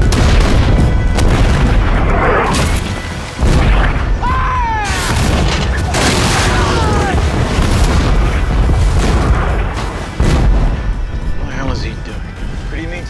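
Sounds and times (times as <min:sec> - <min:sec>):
cannons firing booms: 0:00.0 - 0:11.3
heavy rumble: 0:00.0 - 0:13.0.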